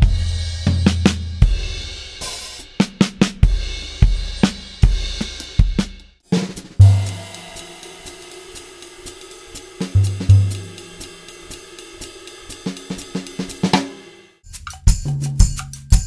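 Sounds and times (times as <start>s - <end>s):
jazz drum kit playing: 0.0s - 16.0s.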